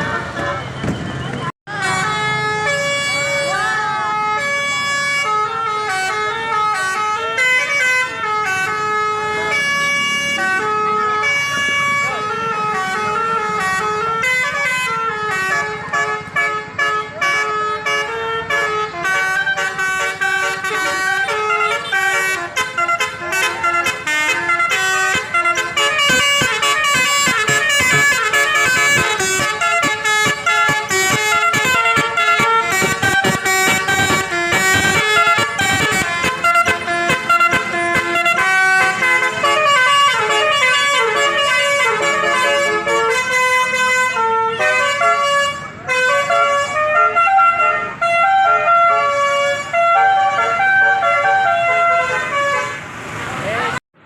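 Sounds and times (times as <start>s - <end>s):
multi-tone air horn playing a tune: 1.7s - 52.9s.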